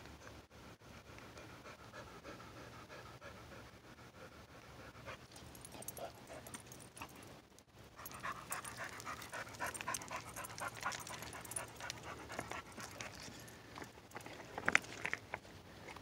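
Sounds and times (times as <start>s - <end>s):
dog panting: 0.6s - 7.3s, 8.0s - 15.0s.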